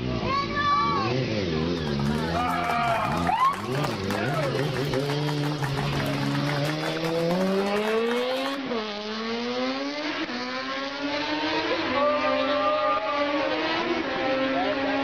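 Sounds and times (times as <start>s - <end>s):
motorcycle engine revving: 1.0s - 15.0s.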